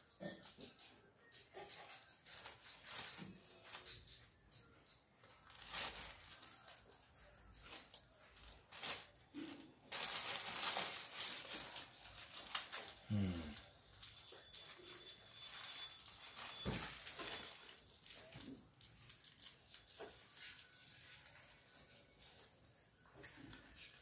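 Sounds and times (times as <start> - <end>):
plastic wrapper crinkling: 1.8 - 4.0, 5.2 - 22.4.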